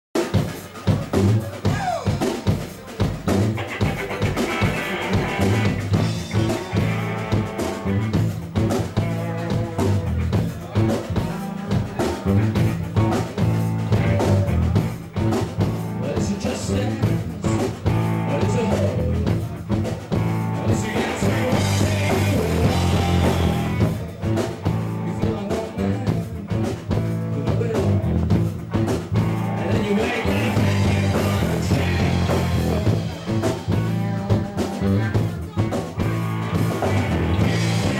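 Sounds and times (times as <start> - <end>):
drum kit: 0.1 - 37.9
electric guitar: 0.2 - 37.9
electric bass: 3.0 - 37.9.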